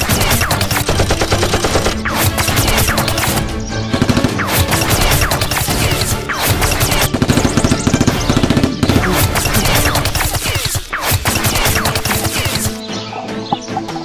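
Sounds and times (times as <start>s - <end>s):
rapid-fire gunshot effects: 0.0s - 12.8s
background music: 0.0s - 14.0s.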